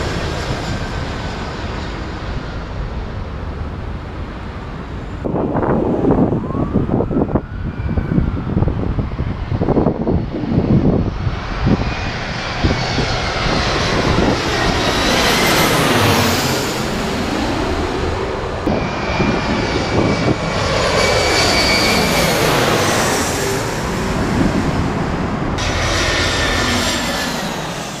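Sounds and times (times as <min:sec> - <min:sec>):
jet engines roaring overhead: 0:00.0 - 0:28.0.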